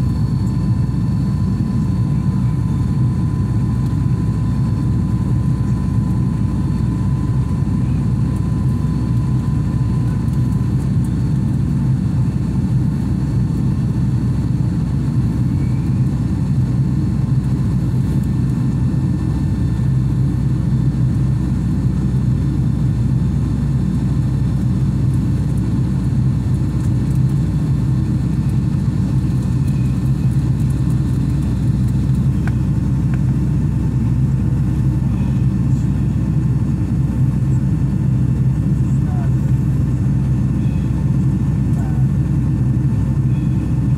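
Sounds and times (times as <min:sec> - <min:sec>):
jet engine cabin drone: 0:00.0 - 0:43.9.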